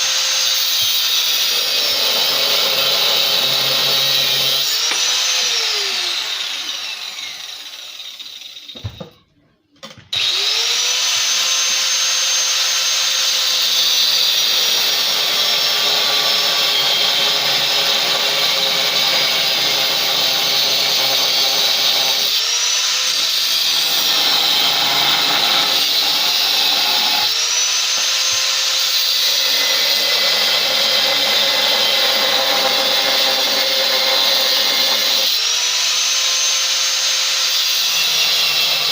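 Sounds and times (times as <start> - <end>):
angle grinder cutting tube: 0.0 - 8.8, 10.1 - 38.9.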